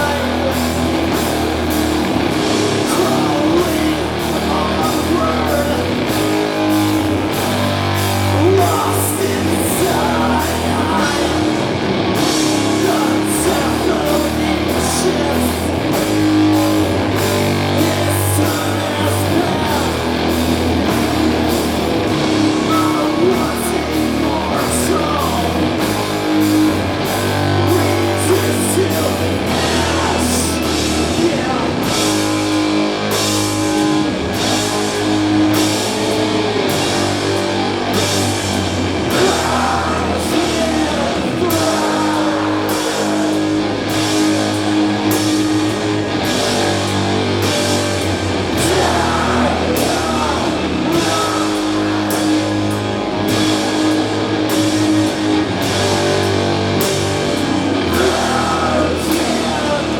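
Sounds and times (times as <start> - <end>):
distorted guitars and bass: 0.0 - 59.9
drums: 0.0 - 59.9.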